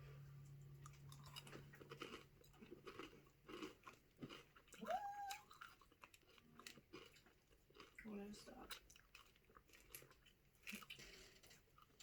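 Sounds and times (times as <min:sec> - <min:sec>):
person chewing crunchy candy: 0:00.9 - 0:12.0.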